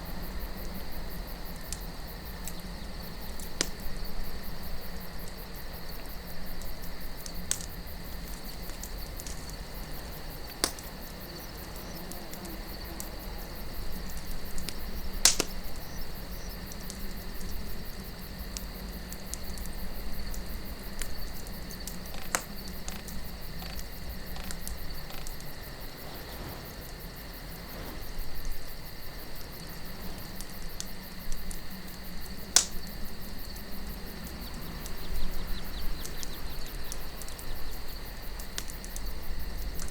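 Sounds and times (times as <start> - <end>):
crickets chirping: 0.0 - 39.9
low wind hush: 0.0 - 39.9
campfire crackling and popping: 0.1 - 39.9.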